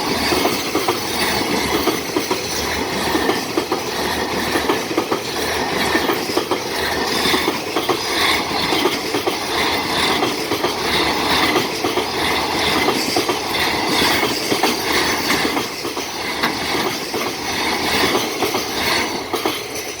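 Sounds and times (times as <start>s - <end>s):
train wheels clattering over rails: 0.0s - 20.0s.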